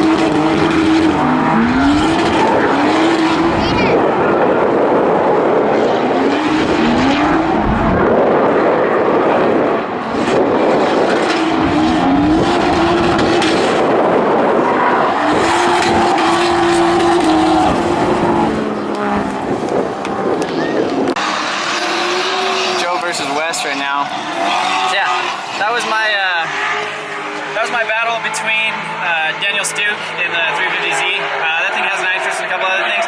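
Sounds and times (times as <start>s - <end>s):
car engines revving hard: 0.0s - 33.0s
exhaust and tyre noise: 0.0s - 33.0s.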